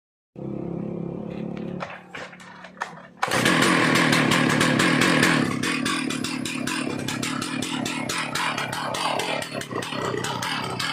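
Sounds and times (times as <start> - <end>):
chainsaw engine idling and revving: 0.4 - 10.9.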